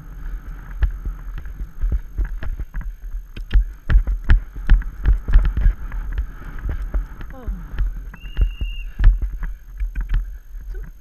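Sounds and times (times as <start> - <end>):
horse hoofbeats on sand: 0.0 - 10.2
wind rumbling on microphone: 0.0 - 11.0.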